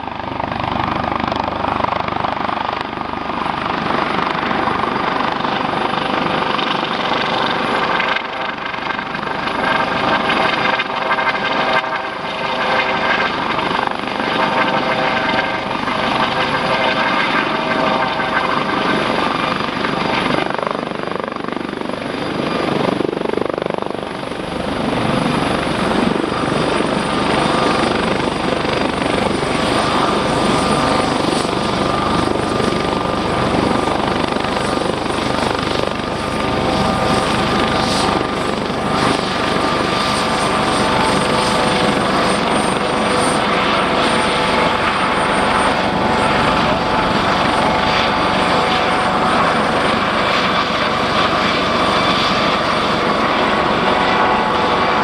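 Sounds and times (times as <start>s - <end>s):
helicopter rotor running: 0.0s - 55.0s
turbine whine: 0.0s - 55.0s.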